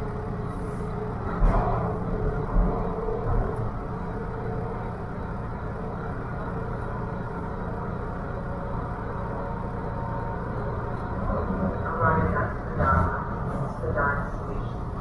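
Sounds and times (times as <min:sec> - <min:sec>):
subway wheels rumbling on rails: 0:00.0 - 0:15.0.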